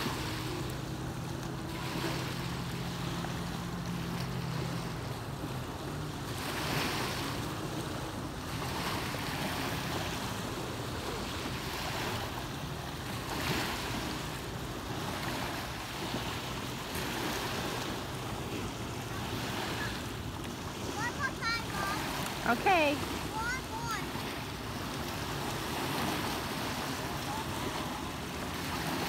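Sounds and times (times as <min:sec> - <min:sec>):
distant motorboat engine humming: 0:00.0 - 0:29.0
small waves lapping on shore: 0:00.0 - 0:29.0.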